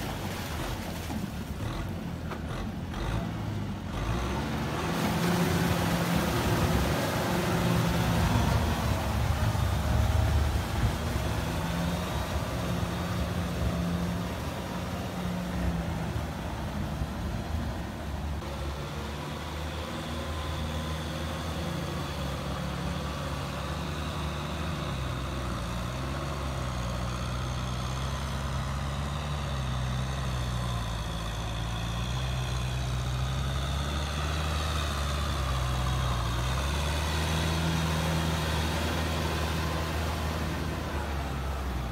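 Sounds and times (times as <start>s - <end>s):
diesel tractor engines running: 0.0s - 41.9s.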